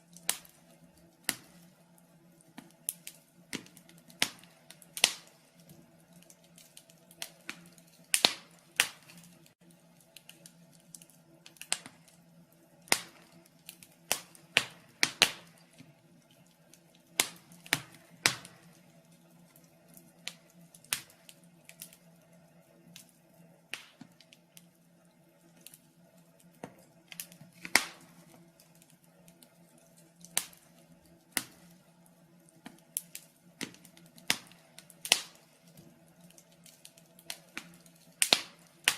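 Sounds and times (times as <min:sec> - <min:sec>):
faint steady hum: 0:00.0 - 0:38.9
wood fire crackling: 0:00.0 - 0:38.9.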